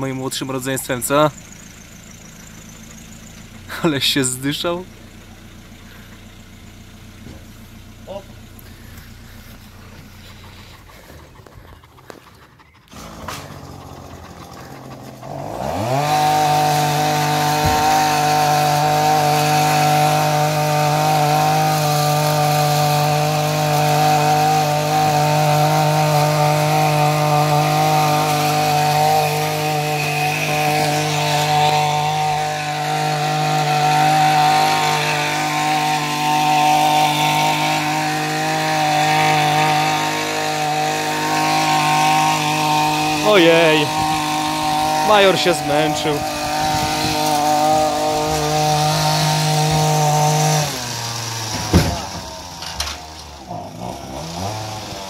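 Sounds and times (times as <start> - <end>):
hedge trimmer motor running: 5.0 - 55.0.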